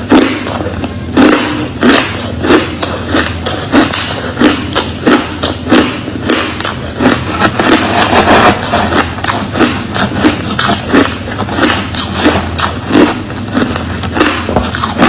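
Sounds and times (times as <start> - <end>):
crushed ice being chewed: 0.0 - 15.0.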